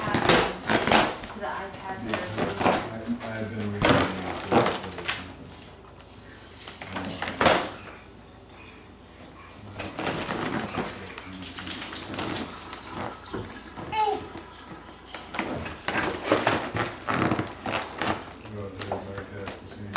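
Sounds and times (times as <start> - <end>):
foil balloon crinkling: 0.0 - 7.8, 9.6 - 19.9.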